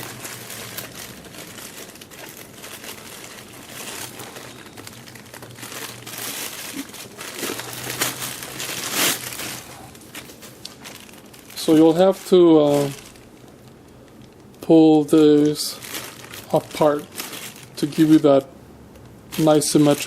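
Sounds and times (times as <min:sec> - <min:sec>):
packaging crinkling and rustling: 0:00.0 - 0:18.5, 0:19.3 - 0:20.0.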